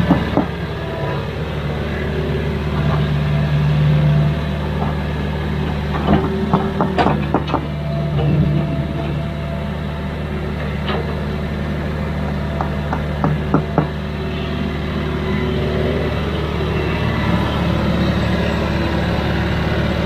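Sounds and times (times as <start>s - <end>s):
diesel excavator engine running: 0.0s - 20.0s.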